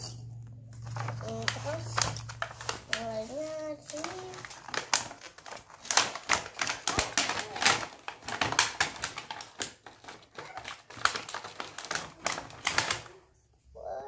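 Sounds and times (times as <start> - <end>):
plastic toy pieces clattering: 0.7 - 13.2.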